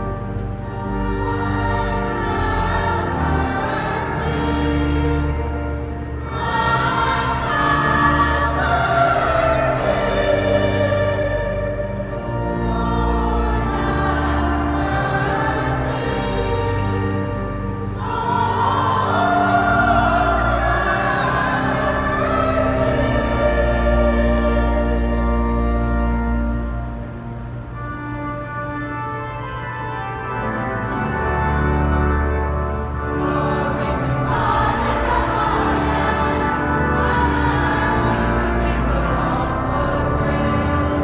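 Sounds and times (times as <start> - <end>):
choir singing a sacred piece: 0.0 - 41.0
sustained low accompaniment: 0.0 - 41.0.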